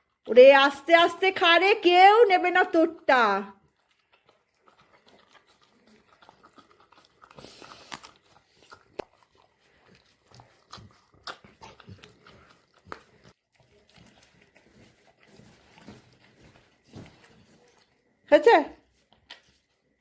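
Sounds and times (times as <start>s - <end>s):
dog eating and chewing: 0.0s - 20.0s.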